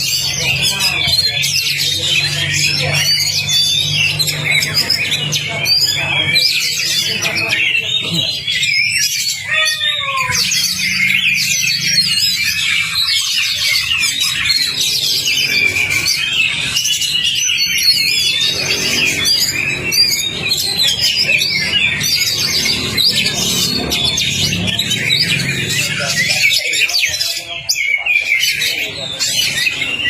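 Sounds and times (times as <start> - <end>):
bird singing varied song: 0.0 - 30.0.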